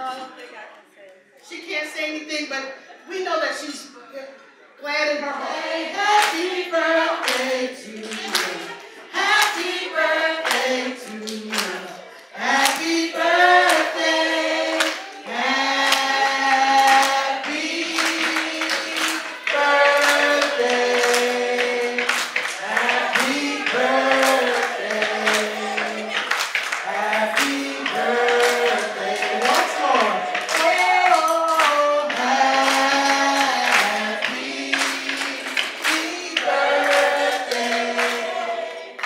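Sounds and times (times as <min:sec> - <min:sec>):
group singing in chorus: 0:05.4 - 0:39.0
rhythmic hand clapping: 0:05.5 - 0:39.0.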